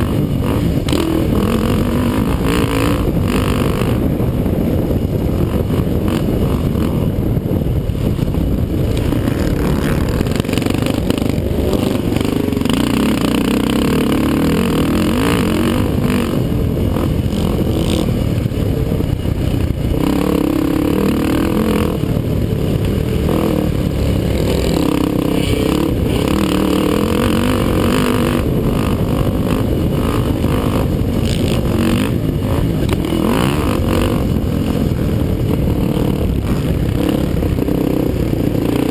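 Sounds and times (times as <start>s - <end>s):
quad bike engines revving: 0.0s - 38.9s.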